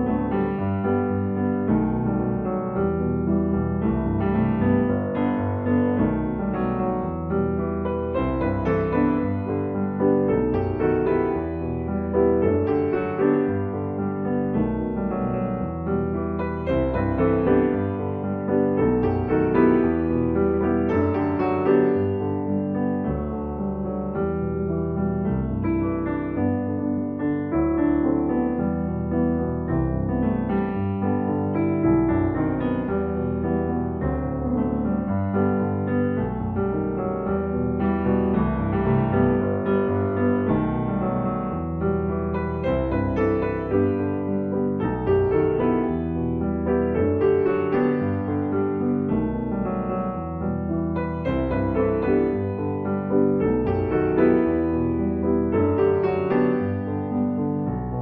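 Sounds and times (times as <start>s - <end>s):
slow piano piece: 0.0s - 58.0s.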